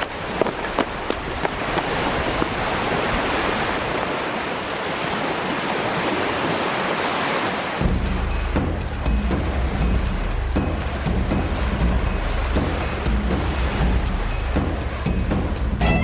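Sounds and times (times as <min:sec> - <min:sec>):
sea wave washing in: 0:00.0 - 0:15.9.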